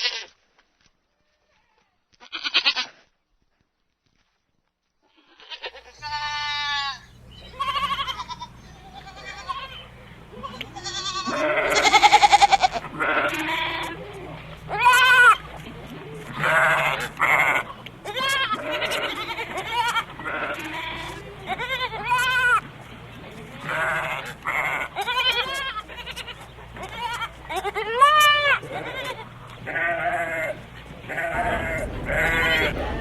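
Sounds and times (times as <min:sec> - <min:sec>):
goats bleating: 0:05.2 - 0:33.0.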